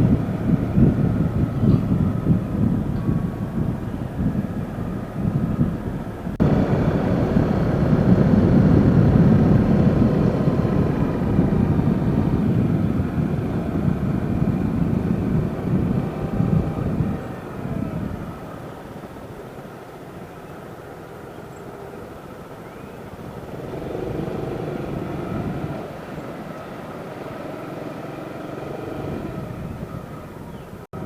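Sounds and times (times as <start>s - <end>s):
small motorcycle engine running: 0.0s - 19.4s, 22.7s - 31.0s
wind rumbling on microphone: 0.0s - 31.0s.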